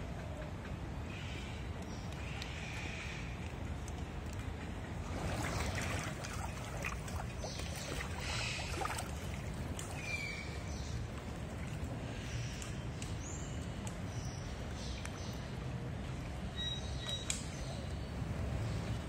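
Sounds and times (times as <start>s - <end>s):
water splashing and sloshing: 0.9s - 19.0s.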